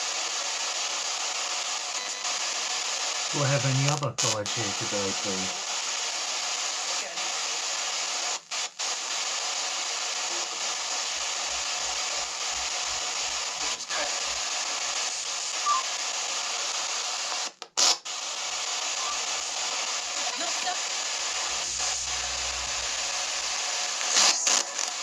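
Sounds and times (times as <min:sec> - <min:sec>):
radio static: 0:00.0 - 0:25.0.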